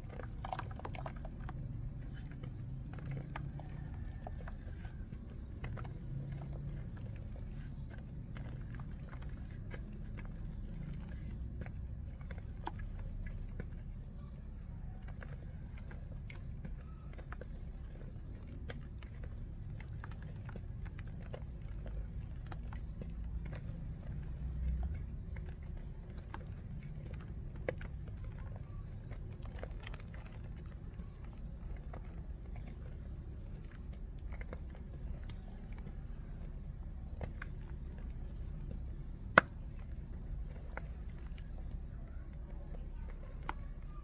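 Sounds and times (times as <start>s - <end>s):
dry clay crunching and crumbling: 0.0s - 44.0s
steady low rumble: 0.0s - 44.0s.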